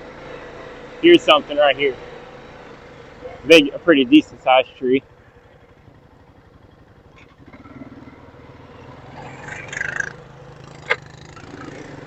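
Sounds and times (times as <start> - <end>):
four-wheeler engine running: 0.0 - 12.0.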